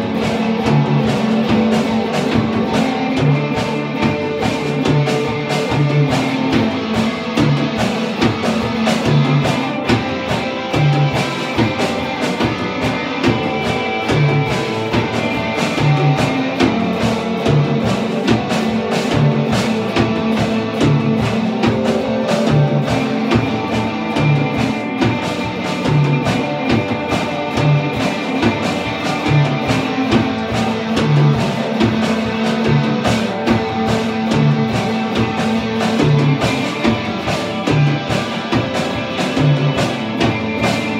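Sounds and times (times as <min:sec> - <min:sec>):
drum kit: 0:00.0 - 0:40.9
electric guitars: 0:00.0 - 0:40.9
live metal band playing: 0:00.0 - 0:40.9.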